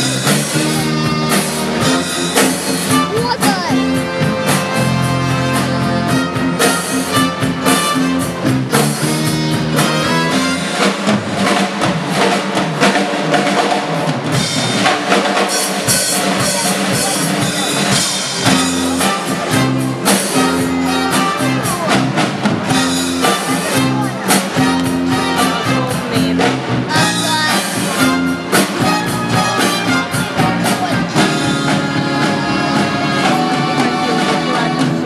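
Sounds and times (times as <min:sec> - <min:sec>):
held bass notes: 0:00.0 - 0:12.7, 0:15.7 - 0:35.0
drum kit beat: 0:00.0 - 0:35.0
lively band music: 0:00.0 - 0:35.0.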